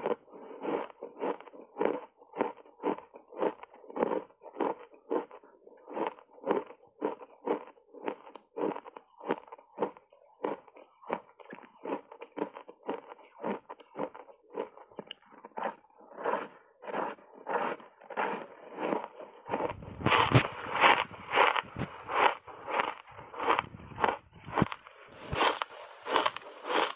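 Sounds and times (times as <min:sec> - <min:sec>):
ice being chewed crunching: 0:00.0 - 0:26.9.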